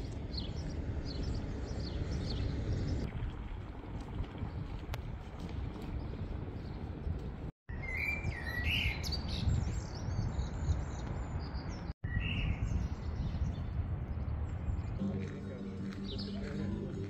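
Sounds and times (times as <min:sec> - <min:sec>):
songbirds chirping: 0:00.0 - 0:03.1, 0:05.6 - 0:17.0
traffic rumble: 0:00.0 - 0:07.5, 0:09.2 - 0:17.0
wind noise: 0:00.0 - 0:17.0.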